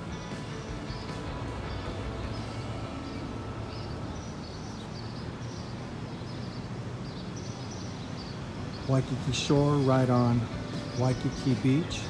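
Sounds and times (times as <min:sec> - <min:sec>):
small birds chirping: 0:00.0 - 0:12.0
steady outdoor rumble: 0:00.0 - 0:12.0.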